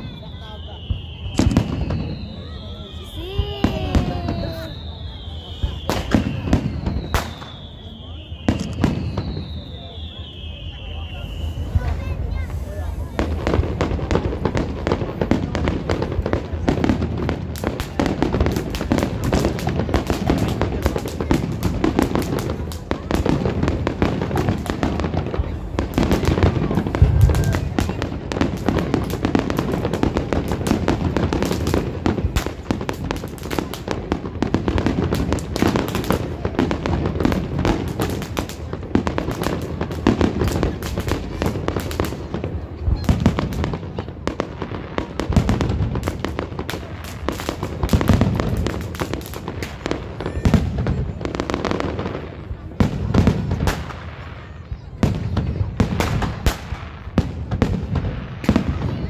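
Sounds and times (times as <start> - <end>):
deep fireworks booms: 0.0 - 59.0
fireworks bangs and crackles: 0.0 - 59.0.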